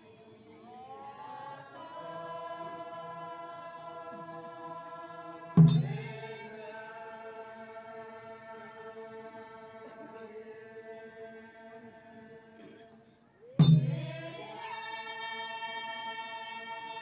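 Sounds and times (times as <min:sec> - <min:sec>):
group chanting in unison: 0:00.0 - 0:17.0.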